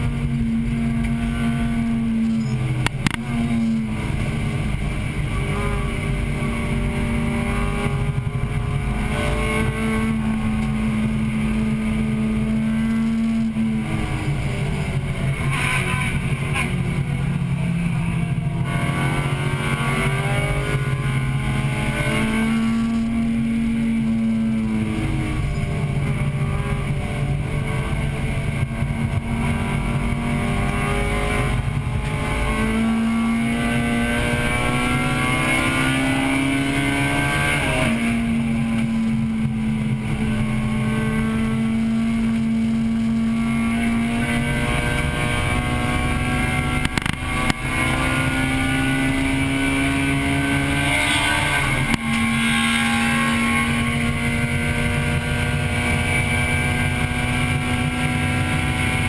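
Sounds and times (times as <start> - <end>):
car engine revving: 0.0 - 59.0
wind and road noise: 0.0 - 59.0.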